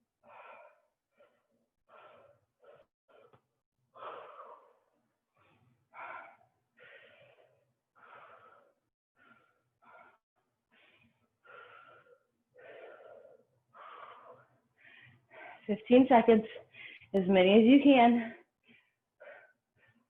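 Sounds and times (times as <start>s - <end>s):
person breathing hard: 0.2s - 15.7s, 18.6s - 20.0s.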